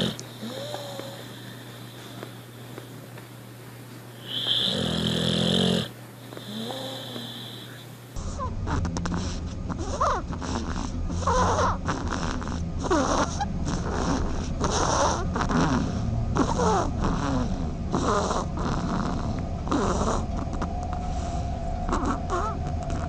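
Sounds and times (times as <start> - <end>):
animal snoring with whistle: 0.0 - 2.0, 4.2 - 23.0.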